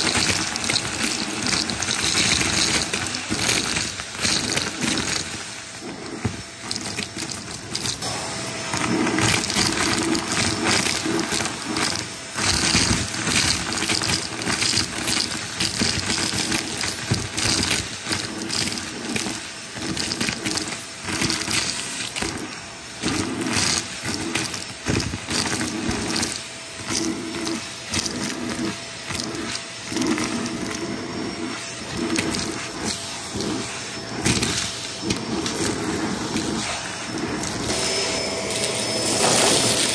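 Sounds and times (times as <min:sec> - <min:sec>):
debris rattling up vacuum tube: 0:00.0 - 0:39.9
vacuum cleaner running: 0:00.0 - 0:39.9.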